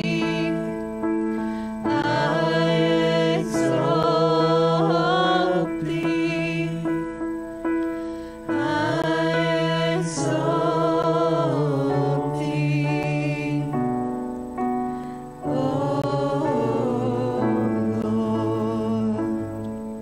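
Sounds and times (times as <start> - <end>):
group singing a hymn: 0.0 - 7.2, 8.0 - 20.0
electronic keyboard: 0.0 - 20.0.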